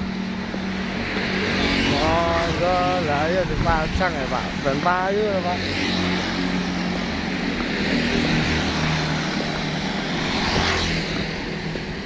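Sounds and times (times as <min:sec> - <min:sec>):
traffic passing noise: 0:00.0 - 0:12.0.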